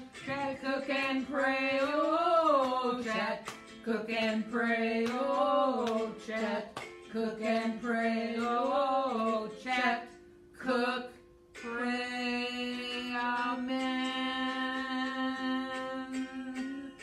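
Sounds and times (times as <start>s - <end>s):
women singing unaccompanied: 0.0s - 17.0s.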